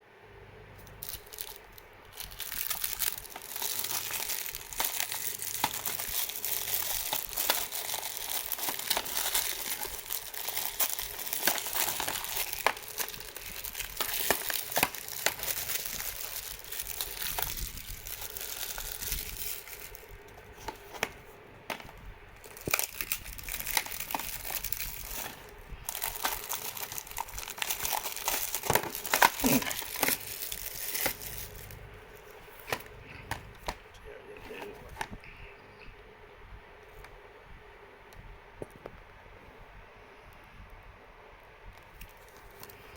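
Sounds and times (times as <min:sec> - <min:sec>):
plastic packaging crinkling and tearing: 0:00.8 - 0:35.2, 0:41.8 - 0:42.9.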